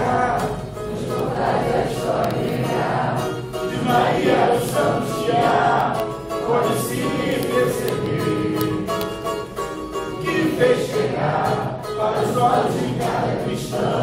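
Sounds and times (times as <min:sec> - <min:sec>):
group singing in chorus: 0:00.0 - 0:14.0
musical accompaniment: 0:00.0 - 0:14.0.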